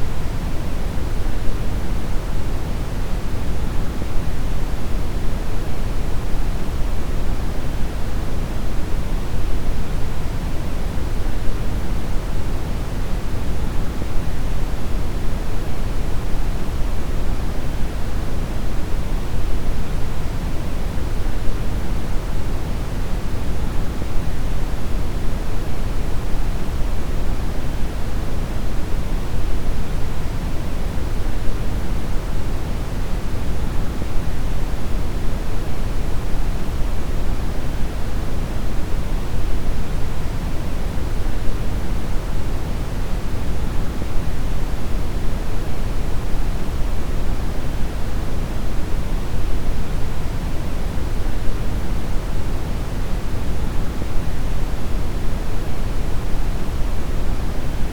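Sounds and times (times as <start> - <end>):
brown noise hiss: 0.0 - 57.9.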